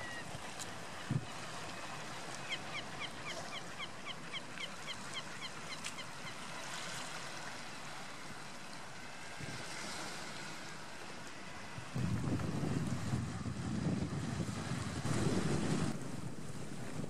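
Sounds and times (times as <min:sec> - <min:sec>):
wind and sea hiss: 0:00.0 - 0:17.0.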